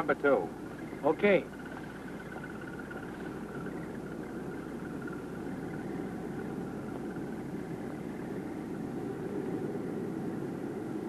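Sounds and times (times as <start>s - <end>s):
distant aircraft engines droning: 0.0s - 11.0s
old film soundtrack hiss: 0.0s - 11.0s.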